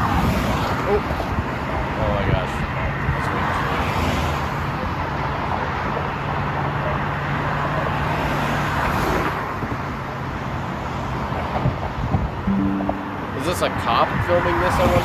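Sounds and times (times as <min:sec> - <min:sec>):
freeway traffic rushing: 0:00.0 - 0:12.5.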